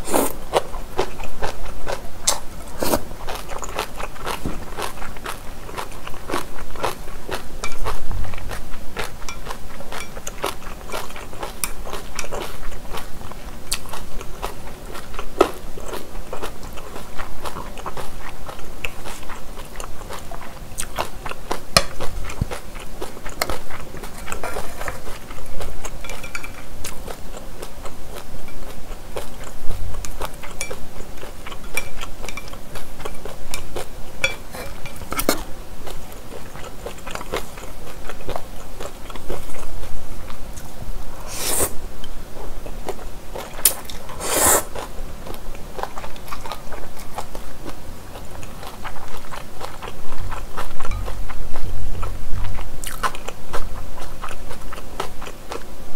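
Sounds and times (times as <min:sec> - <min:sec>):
close chewing of noodles: 0:00.0 - 0:55.9.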